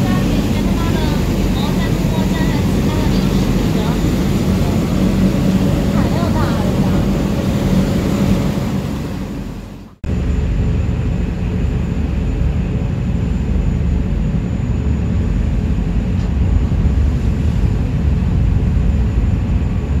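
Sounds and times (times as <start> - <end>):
faint hum: 0.0 - 20.0
ferry engines rumbling: 0.0 - 20.0.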